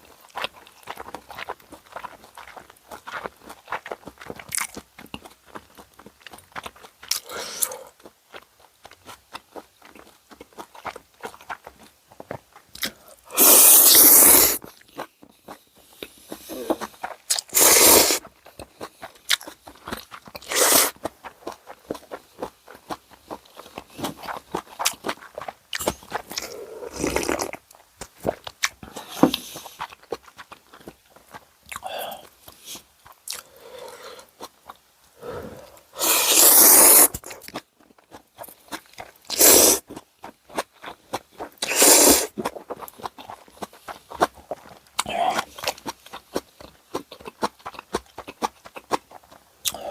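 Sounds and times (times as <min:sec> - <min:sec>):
chewing and crunching food: 0:00.0 - 0:49.9.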